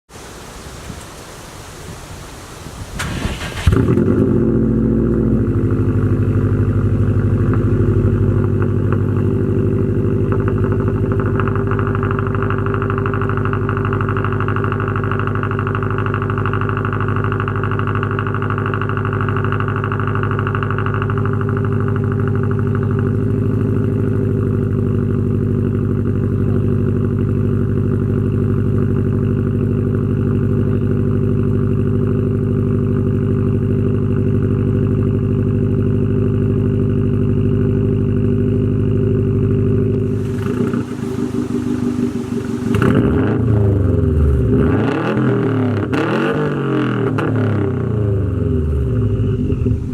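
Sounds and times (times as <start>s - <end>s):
car engine idling: 2.6s - 49.9s.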